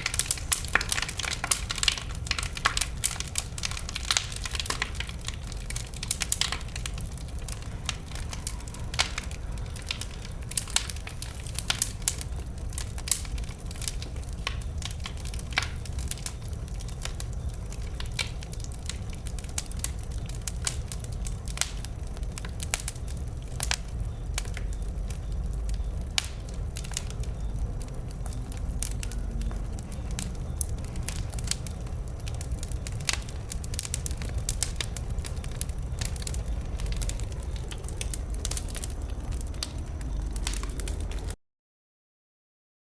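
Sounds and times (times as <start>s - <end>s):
bonfire crackling and popping: 0.0s - 41.4s
low rumble: 0.0s - 41.4s.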